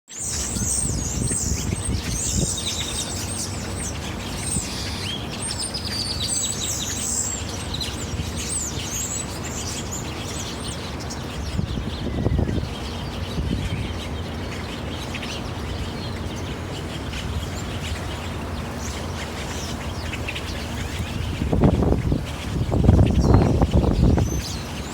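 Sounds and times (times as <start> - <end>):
small birds chirping: 0.1 - 24.9.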